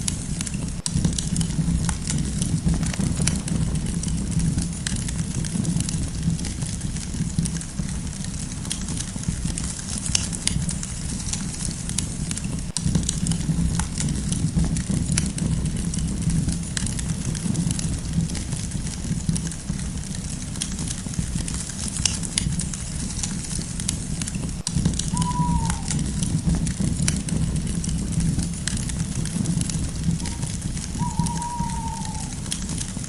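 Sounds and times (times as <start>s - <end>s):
burning wood crackling and popping: 0.0s - 33.0s
low rumble of flames: 0.0s - 33.0s.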